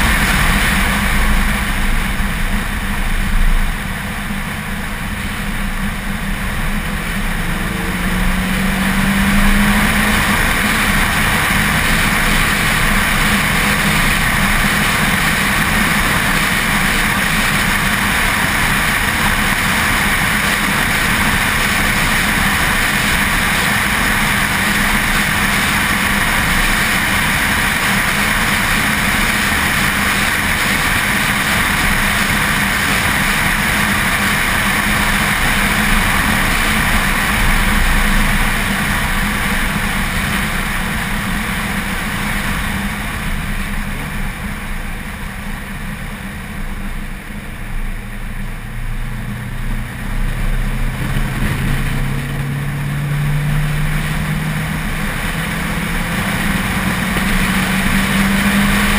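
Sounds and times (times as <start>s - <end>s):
car engine at speed: 0.0s - 58.9s
lower engine note rising: 0.0s - 58.9s
wind and tyre rush: 0.0s - 58.9s.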